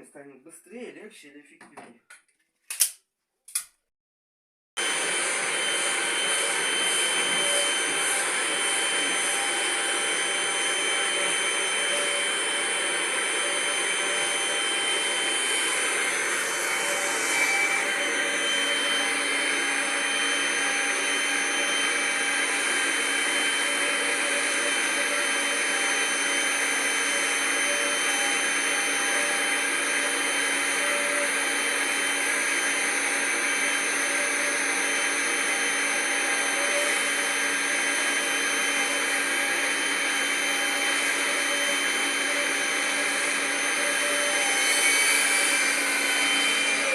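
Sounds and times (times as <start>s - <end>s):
vacuum cleaner motor running: 4.8s - 46.9s.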